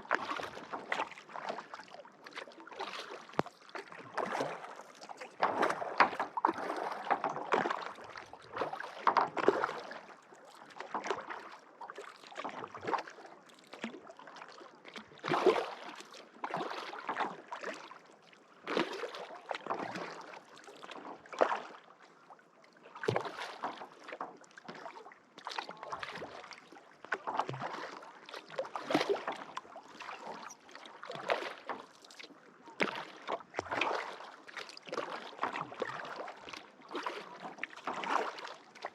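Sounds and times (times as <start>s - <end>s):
kayak paddle splashing in water: 0.0s - 22.0s, 22.9s - 38.9s.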